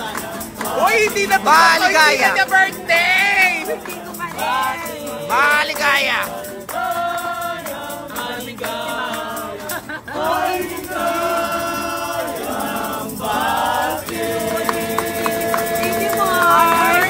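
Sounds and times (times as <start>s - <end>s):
people singing in chorus: 0.0s - 17.0s.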